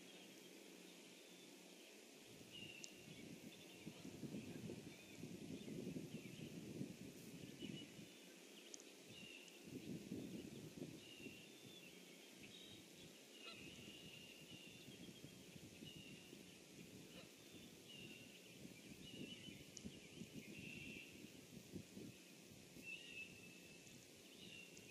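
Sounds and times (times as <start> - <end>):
low rustling noise: 0.0 - 24.9.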